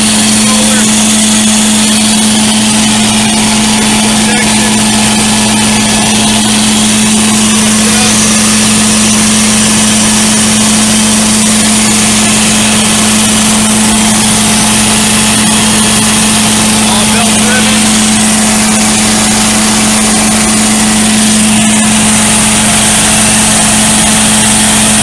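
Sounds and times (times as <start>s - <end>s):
engine droning with steady hum: 0.0s - 25.0s.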